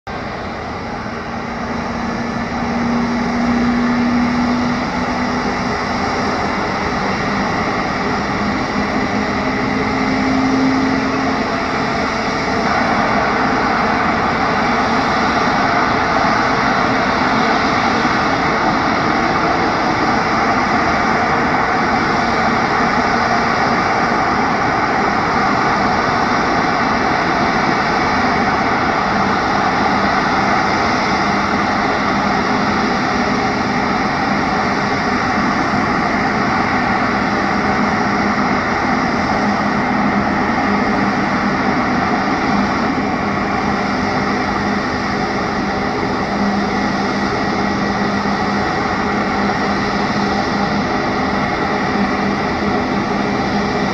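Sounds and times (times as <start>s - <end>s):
jet engines running: 0.0s - 53.9s.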